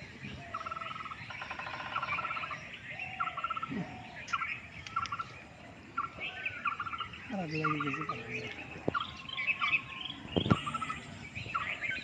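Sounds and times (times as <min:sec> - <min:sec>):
rapidly pulsing frog call: 0:00.5 - 0:12.0.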